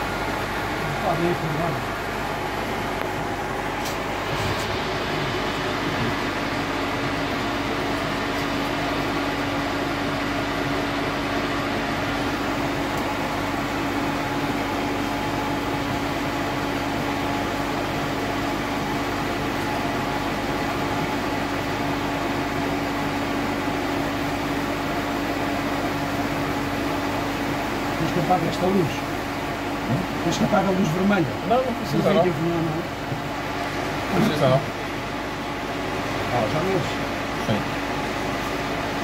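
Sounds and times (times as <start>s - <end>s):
machine hum with hiss: 0.0s - 39.0s.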